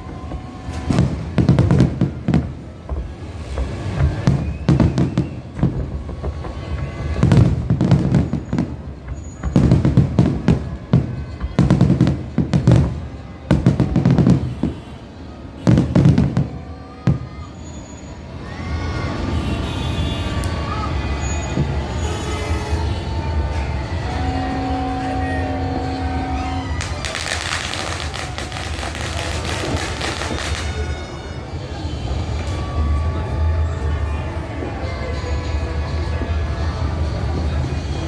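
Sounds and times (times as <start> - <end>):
fireworks booming and crackling: 0.0 - 18.0, 19.0 - 38.0.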